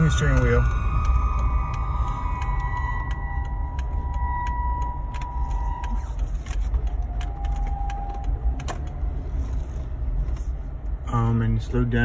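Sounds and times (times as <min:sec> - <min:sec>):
thin steady squeal: 0:00.0 - 0:10.0
car engine and road rumble: 0:00.0 - 0:12.0.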